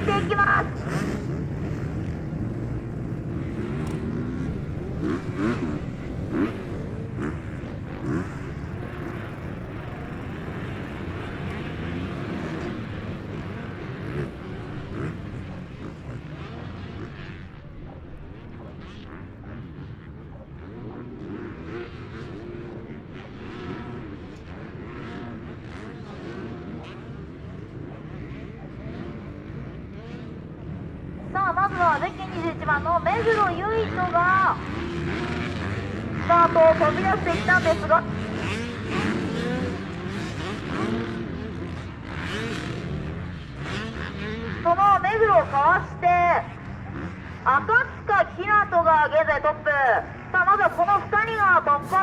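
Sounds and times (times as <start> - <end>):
motocross bike engines revving: 0.0 - 52.0.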